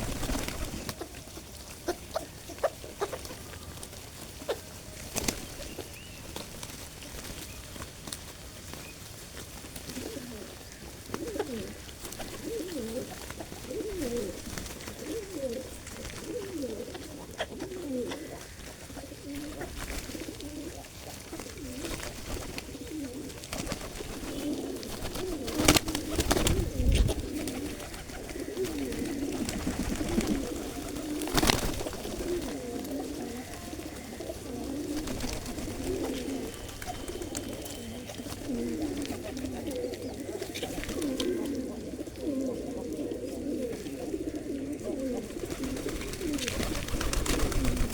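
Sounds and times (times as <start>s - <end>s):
pigeons cooing: 0.0s - 7.8s, 8.7s - 47.9s.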